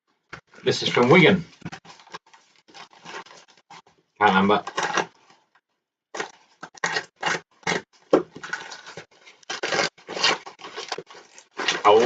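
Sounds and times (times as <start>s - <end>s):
packaging rustling and crinkling: 0.5s - 5.5s, 6.2s - 12.0s.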